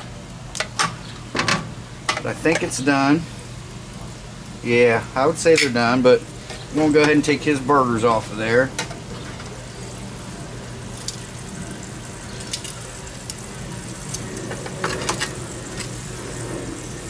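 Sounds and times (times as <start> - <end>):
food sizzling on grill: 0.0 - 17.0.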